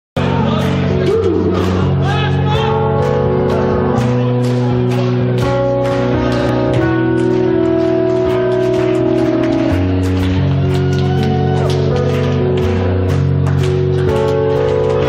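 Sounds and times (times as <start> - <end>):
bass guitar: 0.2 - 15.0.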